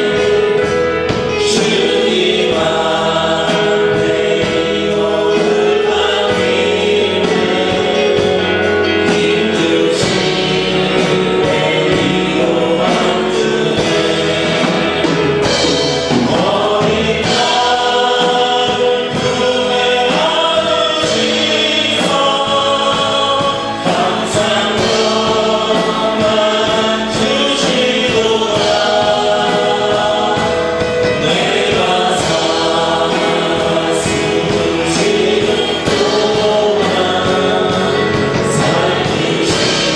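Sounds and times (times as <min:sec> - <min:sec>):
instrumental accompaniment: 0:00.0 - 0:39.9
several voices singing praise song: 0:00.0 - 0:39.9.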